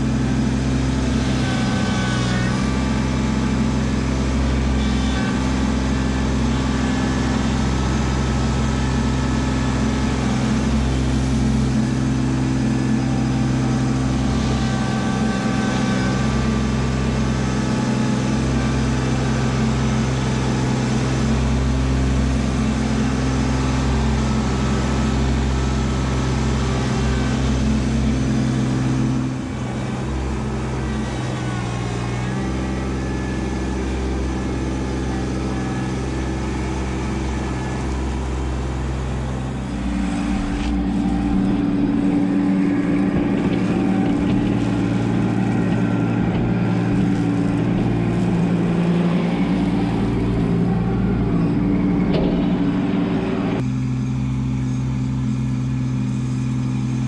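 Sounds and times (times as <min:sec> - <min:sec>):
loader digging gravel: 0:00.0 - 0:53.7
tractor diesel engine running: 0:00.0 - 0:57.0.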